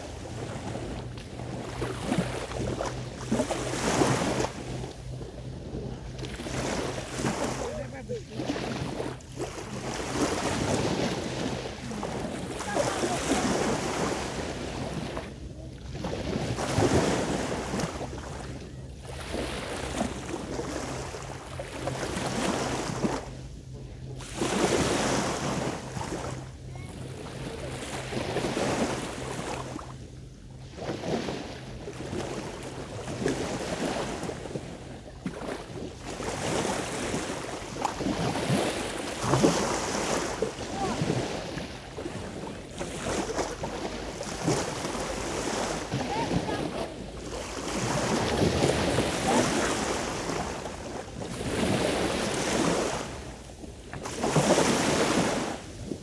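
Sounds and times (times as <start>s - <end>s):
sea waves washing onto shore: 0.0s - 23.4s, 30.6s - 56.0s
steady low hum: 0.0s - 51.4s.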